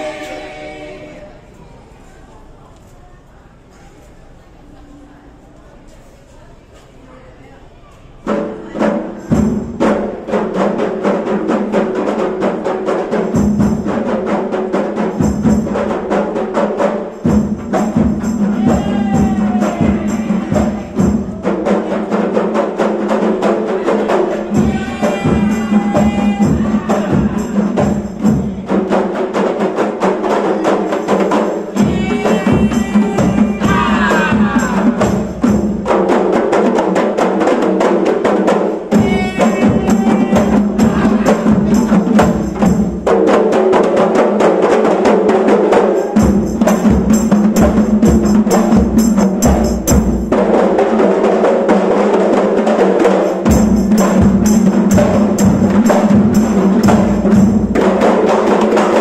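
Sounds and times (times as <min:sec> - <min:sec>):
frame drums beaten by hand: 0:08.2 - 0:59.0.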